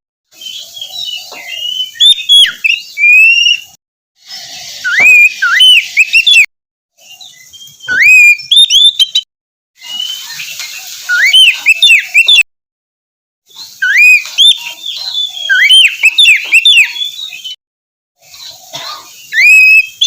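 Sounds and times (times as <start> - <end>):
bird singing whistled phrases: 0.3 - 3.8, 4.4 - 12.4, 13.5 - 17.6, 19.1 - 20.0.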